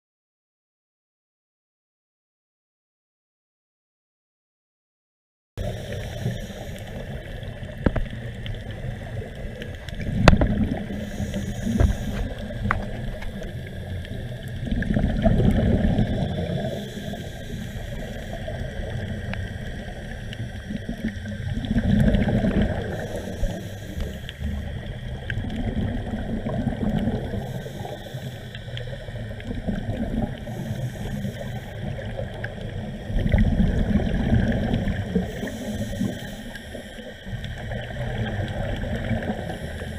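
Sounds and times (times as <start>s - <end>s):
faint clicks and crackles: 5.6s - 39.9s
underwater exhaled bubbles gurgling: 5.6s - 39.9s.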